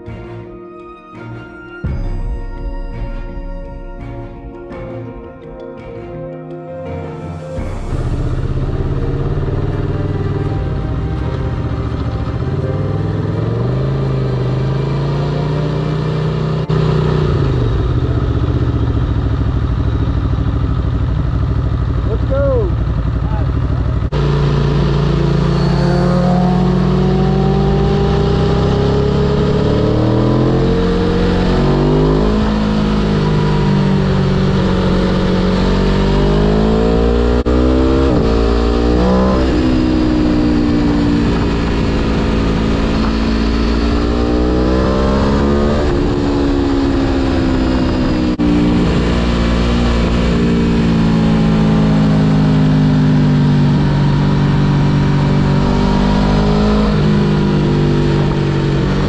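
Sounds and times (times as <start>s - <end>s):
motorcycle engine revving: 7.6s - 59.0s.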